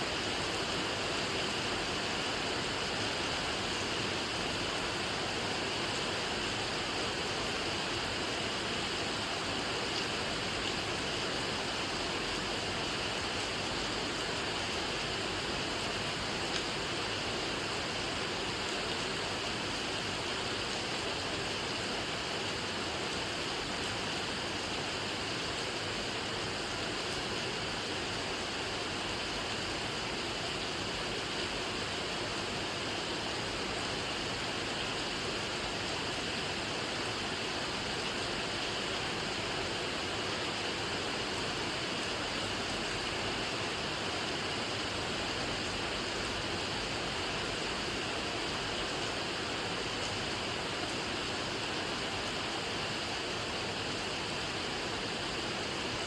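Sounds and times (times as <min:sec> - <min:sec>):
rain falling steadily: 0:00.0 - 0:56.0.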